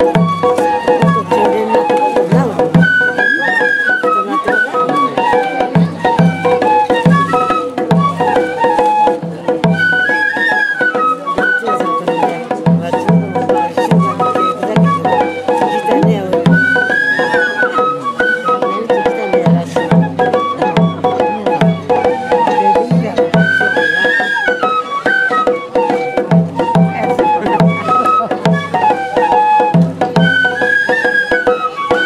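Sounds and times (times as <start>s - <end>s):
bamboo flute melody: 0.0s - 32.0s
taiko drum beats: 0.0s - 32.0s.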